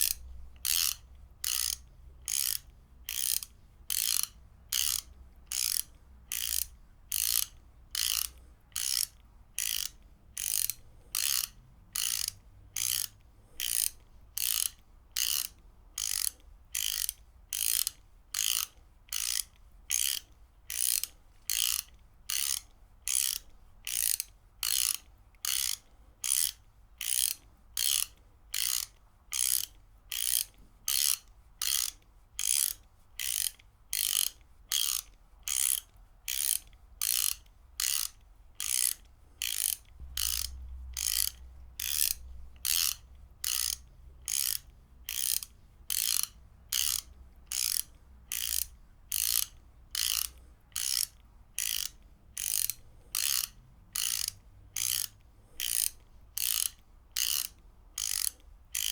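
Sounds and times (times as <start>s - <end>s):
ratchet wrench clicking: 0.0s - 58.9s.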